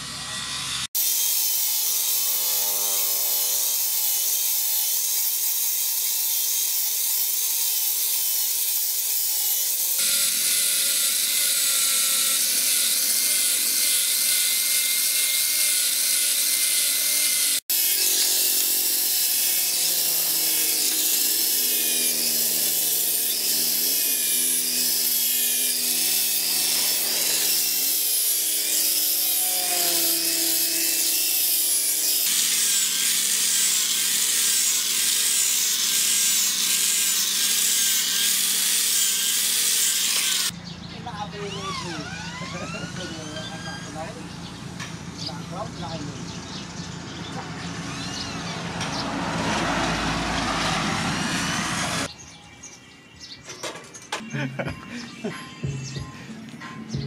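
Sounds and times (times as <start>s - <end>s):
angle grinder grinding steel: 0.0s - 52.1s.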